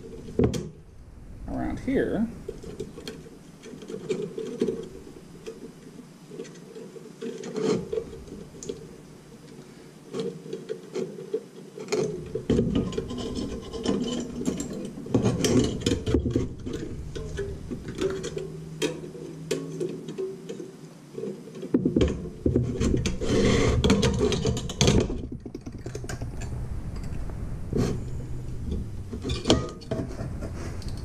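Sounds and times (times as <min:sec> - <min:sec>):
wire rubbing and clicking on metal: 0:02.4 - 0:31.0.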